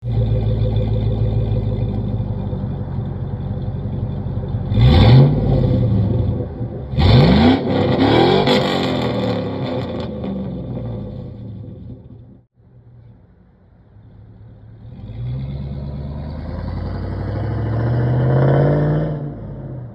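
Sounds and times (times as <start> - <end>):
truck engine idling and revving: 0.0 - 19.9.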